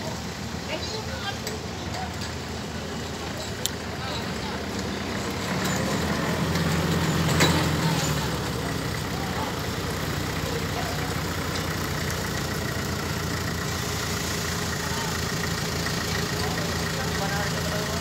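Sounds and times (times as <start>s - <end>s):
crane engine running: 0.0s - 18.0s.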